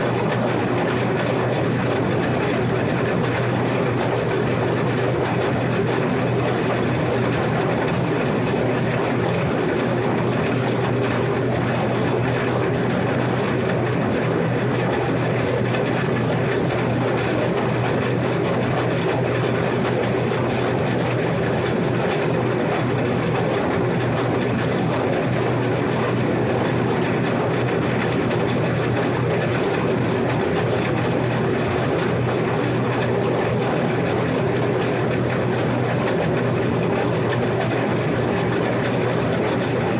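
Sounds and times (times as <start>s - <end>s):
combine harvester mechanical drone: 0.0s - 39.9s.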